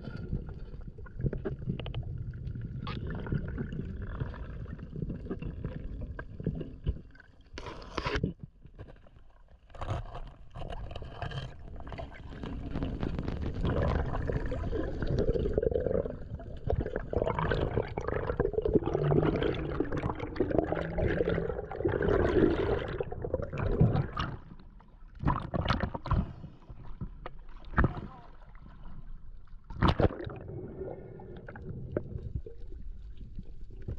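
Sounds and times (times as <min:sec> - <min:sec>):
water sloshing and gurgling: 0:00.0 - 0:33.9.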